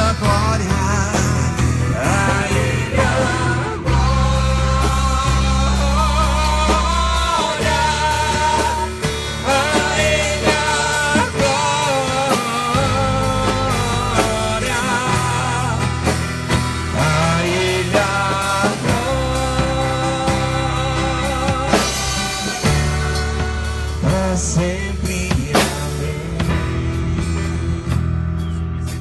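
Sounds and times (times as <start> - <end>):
rock worship music: 0.0 - 29.0.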